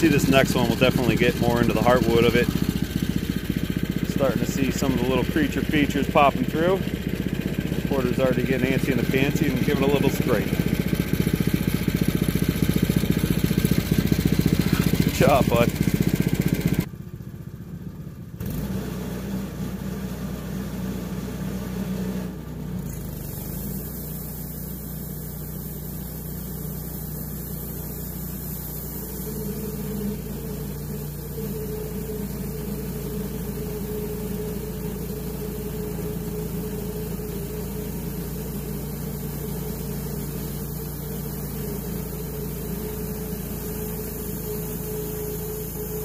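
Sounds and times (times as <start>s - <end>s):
bandsaw mill cutting log: 0.0s - 16.9s, 18.4s - 46.0s.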